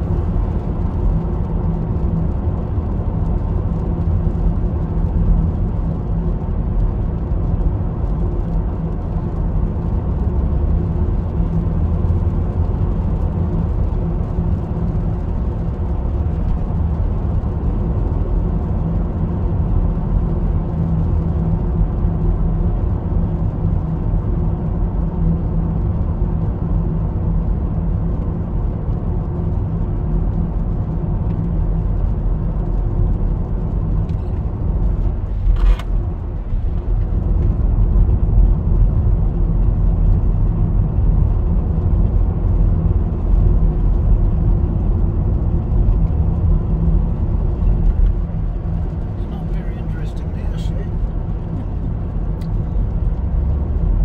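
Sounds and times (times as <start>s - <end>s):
car engine and tyre rumble: 0.0s - 54.0s
constant hum: 0.0s - 54.0s.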